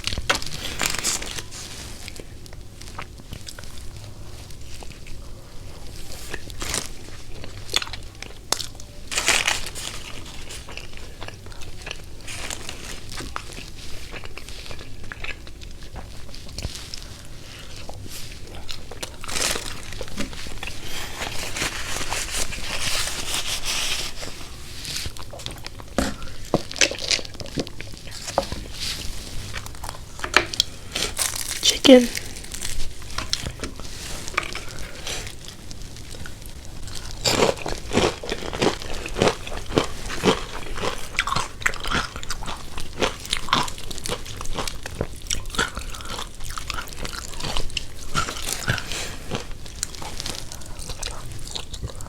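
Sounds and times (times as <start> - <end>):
crunchy chewing: 0.0 - 52.0
paper wrappers crinkling: 0.1 - 2.9, 8.6 - 15.1, 15.8 - 25.8, 26.8 - 51.5.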